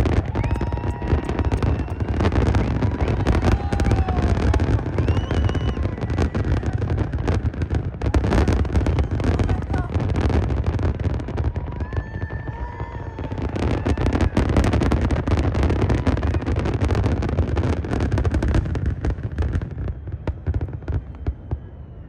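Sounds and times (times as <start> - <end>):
fireworks barrage: 0.0 - 22.0.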